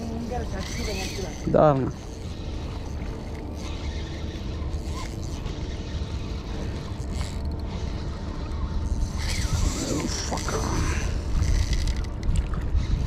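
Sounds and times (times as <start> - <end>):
fishing reel cranking: 0.0 - 13.0
steady low rumble: 0.0 - 13.0.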